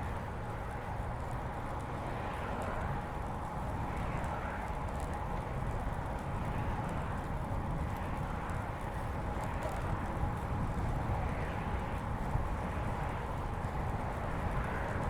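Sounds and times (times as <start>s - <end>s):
bicycle tyres rolling: 0.1s - 15.0s.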